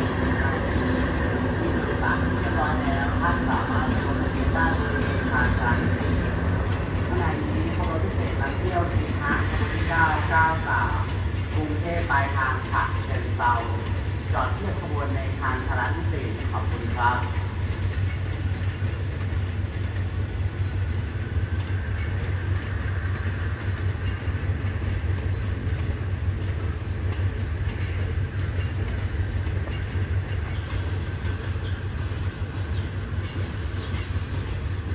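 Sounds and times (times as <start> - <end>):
passenger train rolling on rails: 0.0 - 34.9.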